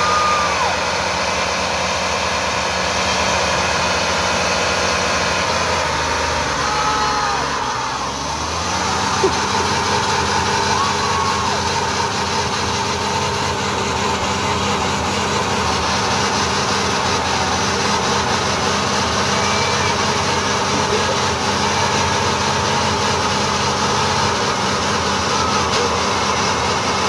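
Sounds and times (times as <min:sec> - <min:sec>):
engine at high revs: 0:00.0 - 0:27.0.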